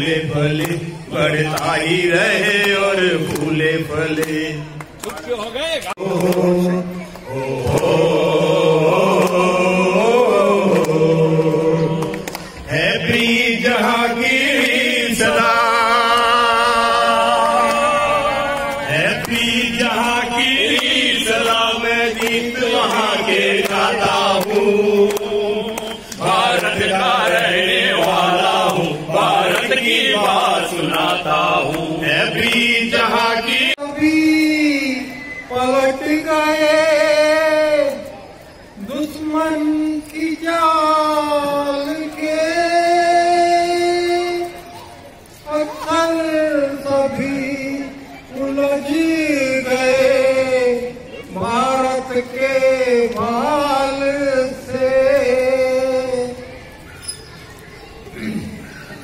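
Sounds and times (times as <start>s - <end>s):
men singing patriotic song: 0.0s - 5.2s, 6.0s - 38.1s, 45.4s - 56.4s.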